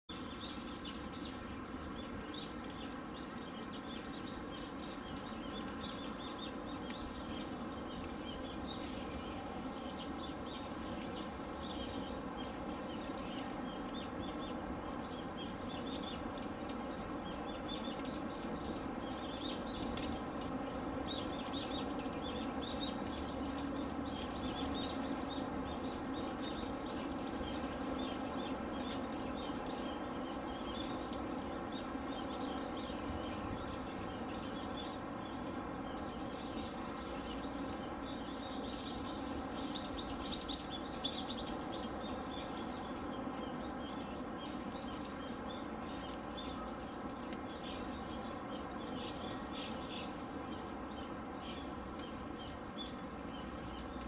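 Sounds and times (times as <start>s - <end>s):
small birds chirping: 0.1s - 54.0s.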